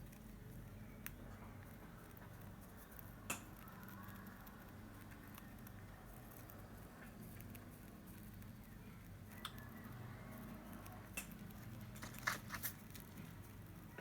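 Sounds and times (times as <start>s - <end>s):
soft rustling of leaves: 1.6s - 14.0s.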